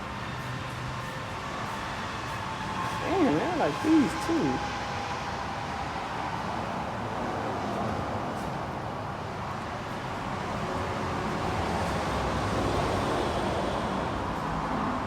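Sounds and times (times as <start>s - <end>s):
road traffic rumble and hiss: 0.0s - 15.0s.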